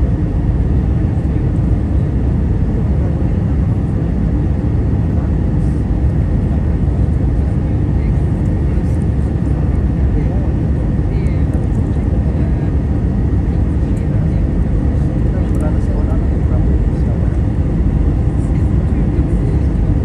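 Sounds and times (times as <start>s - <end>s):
airplane cabin engine drone: 0.0s - 20.0s.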